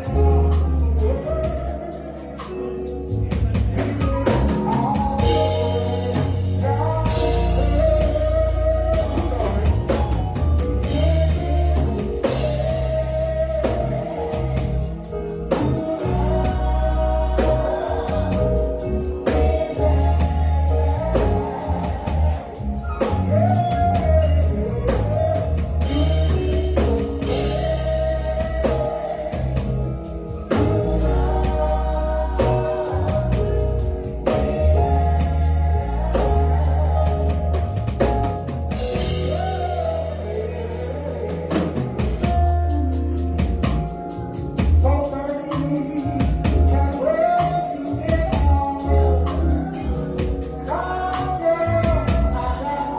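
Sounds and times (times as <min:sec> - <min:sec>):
band with heavy bass and drums: 0:00.0 - 0:52.9
person singing gospel: 0:00.0 - 0:52.9.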